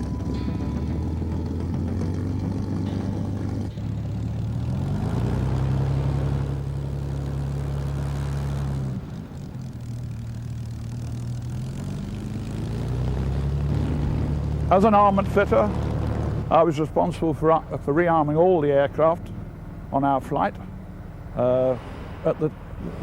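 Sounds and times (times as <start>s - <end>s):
propeller aircraft engine: 0.0s - 23.0s.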